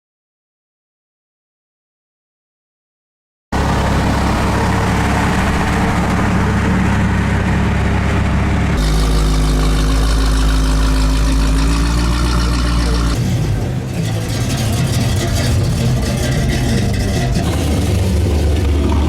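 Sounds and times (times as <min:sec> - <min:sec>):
car engine idling: 0:03.6 - 0:19.0.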